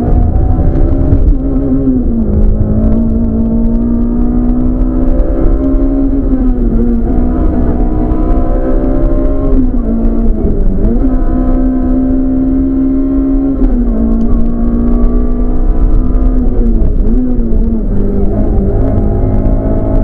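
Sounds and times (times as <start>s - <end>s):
car engine at high revs: 0.0s - 20.0s
road rumble: 0.0s - 20.0s.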